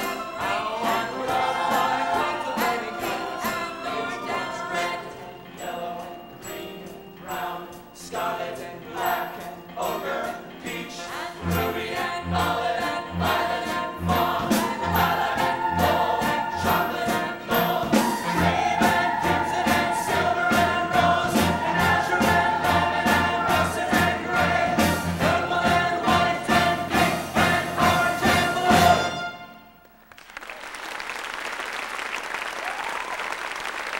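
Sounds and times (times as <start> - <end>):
chorus singing: 0.0 - 29.6
pit band playing: 0.0 - 30.0.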